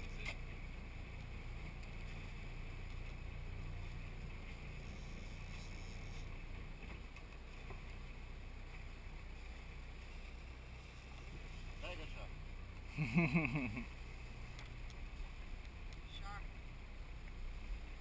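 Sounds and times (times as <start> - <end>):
steady low hum: 0.0 - 18.0
water rushing: 0.0 - 18.0.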